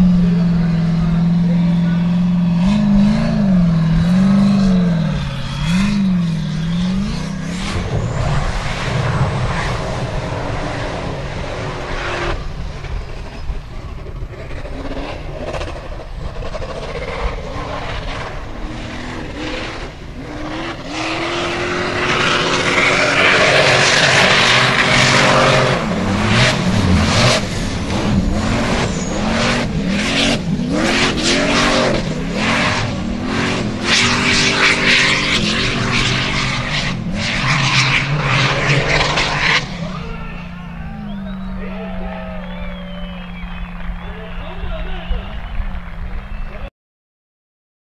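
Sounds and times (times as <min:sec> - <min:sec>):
buggy engine revving hard: 0:00.0 - 0:13.0, 0:14.1 - 0:44.4
spinning tyres throwing mud: 0:00.2 - 0:40.2.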